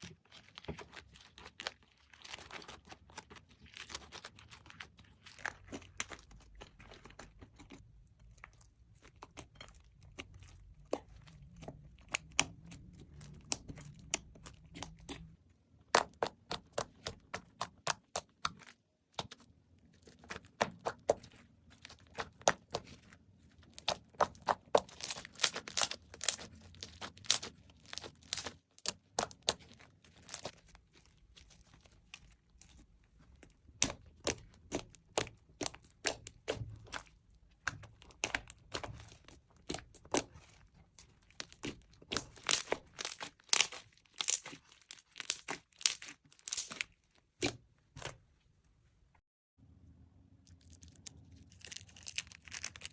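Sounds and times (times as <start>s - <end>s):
slime crackling and popping: 0.0s - 7.6s, 8.4s - 19.4s, 20.0s - 48.1s, 50.6s - 52.9s.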